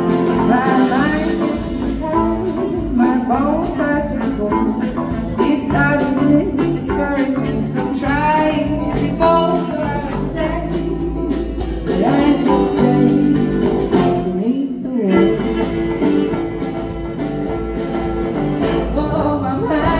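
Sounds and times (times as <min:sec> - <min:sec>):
person singing with vibrato: 0:00.0 - 0:16.4, 0:18.6 - 0:19.9
guitar: 0:00.0 - 0:19.9.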